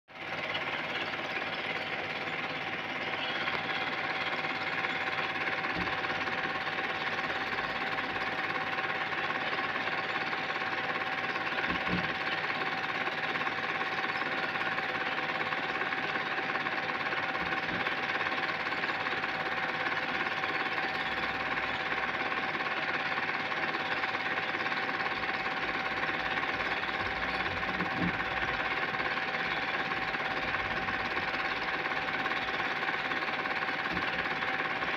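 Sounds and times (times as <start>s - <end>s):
constant hum: 0.1s - 34.9s
film projector whirring: 0.1s - 34.9s.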